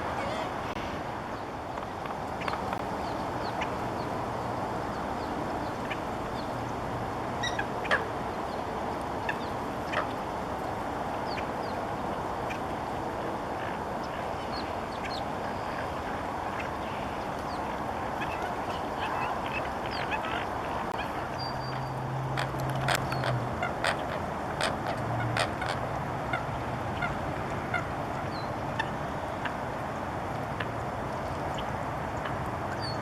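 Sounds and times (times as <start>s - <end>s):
waterbirds calling: 0.0s - 33.0s.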